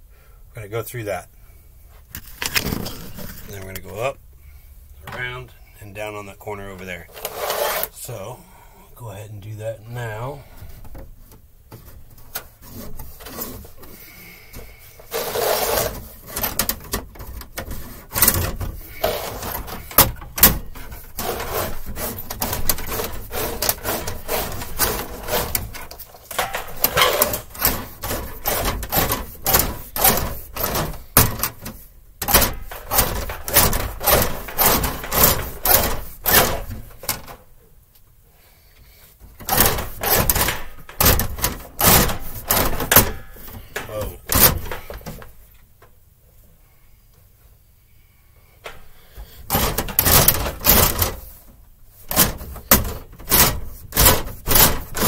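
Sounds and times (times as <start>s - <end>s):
wire scraping through conduit: 2.1s - 4.2s, 6.0s - 8.2s, 9.9s - 37.5s, 39.1s - 45.6s, 48.6s - 55.0s.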